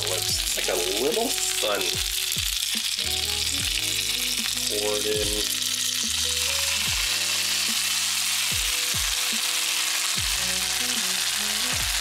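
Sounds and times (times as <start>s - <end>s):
slurry sizzling in hot oil: 0.0s - 12.0s.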